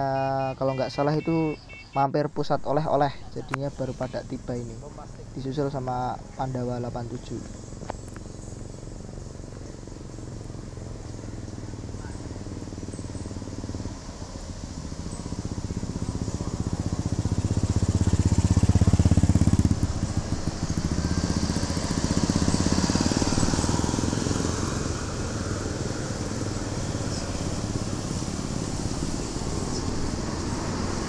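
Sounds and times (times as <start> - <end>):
bus diesel engine passing: 0.0 - 31.0.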